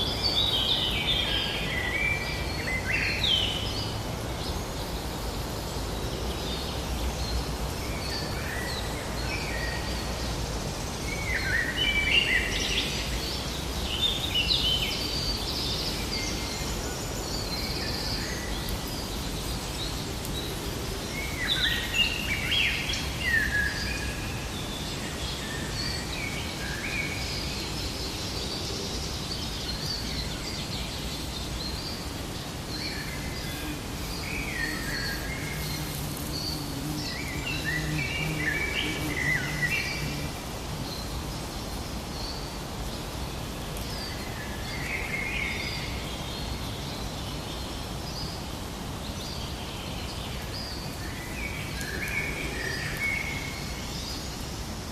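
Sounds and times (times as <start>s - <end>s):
steady background hiss: 0.0s - 54.9s.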